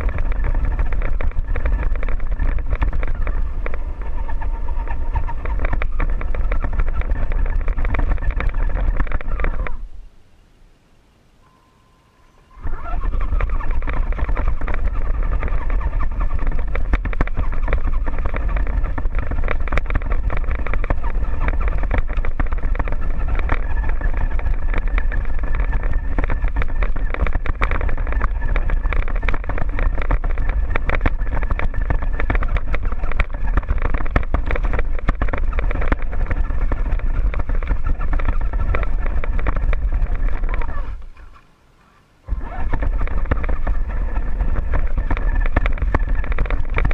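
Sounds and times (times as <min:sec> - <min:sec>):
chassis clicks and rattles: 0:00.0 - 0:09.9, 0:12.6 - 0:41.5, 0:42.3 - 0:46.9
deep rumble: 0:00.0 - 0:10.1, 0:12.5 - 0:41.3, 0:42.3 - 0:46.9
motor and gear whine: 0:00.0 - 0:10.1, 0:11.4 - 0:46.9.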